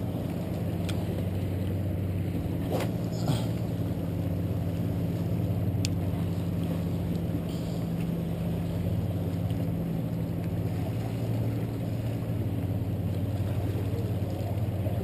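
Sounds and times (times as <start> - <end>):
motor droning: 0.0 - 15.0.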